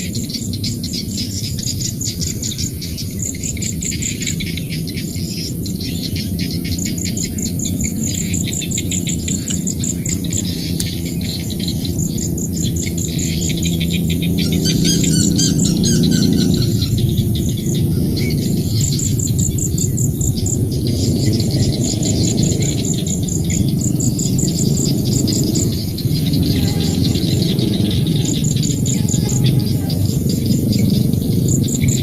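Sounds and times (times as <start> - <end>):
bird calls: 0.0 - 32.0
frogs chorus: 0.0 - 32.0
insects high chirping: 0.0 - 32.0.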